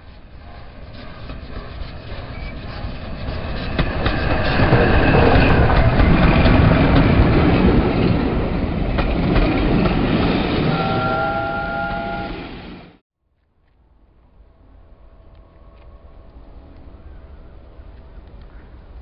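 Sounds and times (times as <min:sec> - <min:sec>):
steam locomotive passing: 0:00.0 - 0:13.0, 0:14.0 - 0:19.0.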